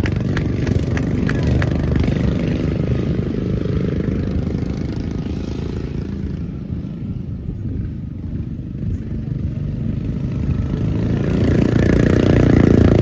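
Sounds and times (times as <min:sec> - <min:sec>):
racing lawn mower engines: 0:00.0 - 0:13.0.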